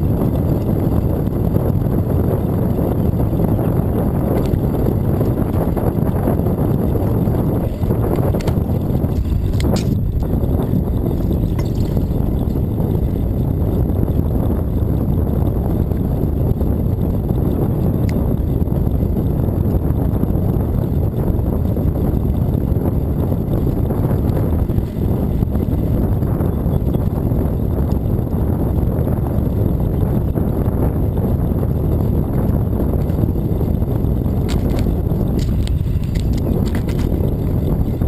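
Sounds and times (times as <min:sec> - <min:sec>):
bicycle tyre noise on asphalt: 0:00.0 - 0:38.0
wind buffeting microphone: 0:00.0 - 0:38.0.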